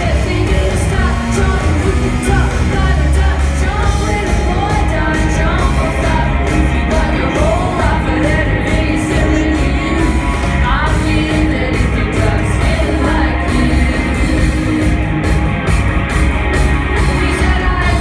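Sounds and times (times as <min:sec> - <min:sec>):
woman singing: 0:00.0 - 0:15.1, 0:17.0 - 0:18.0
live rock band playing: 0:00.0 - 0:18.0.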